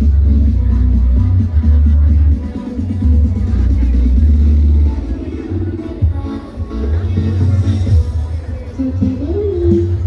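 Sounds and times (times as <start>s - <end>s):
electronic dance music heavy bass: 0.0s - 10.0s.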